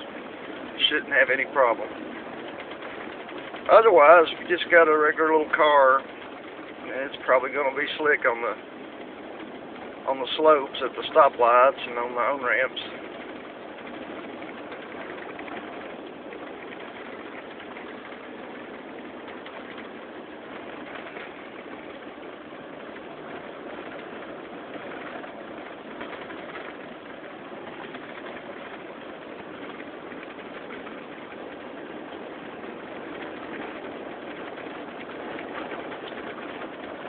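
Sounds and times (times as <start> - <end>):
vehicle road and engine noise: 0.0 - 37.0.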